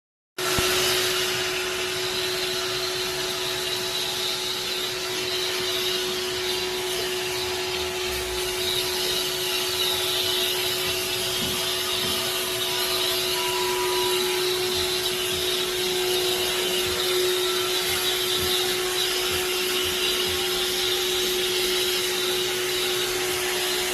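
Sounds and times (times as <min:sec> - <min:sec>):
cleaning machine hissing and humming: 0:00.4 - 0:23.9.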